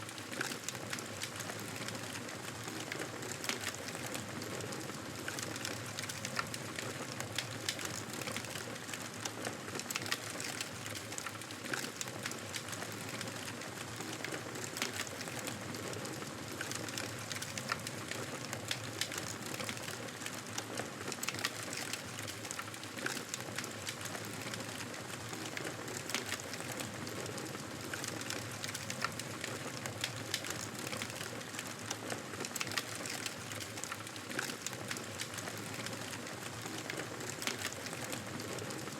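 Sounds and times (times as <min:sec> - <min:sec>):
wood crackling and popping: 0:00.0 - 0:38.9.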